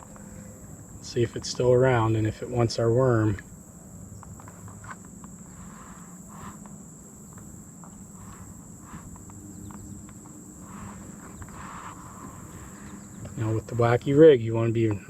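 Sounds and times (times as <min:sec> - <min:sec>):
insects droning: 0:00.0 - 0:15.0
low hum: 0:00.0 - 0:15.0.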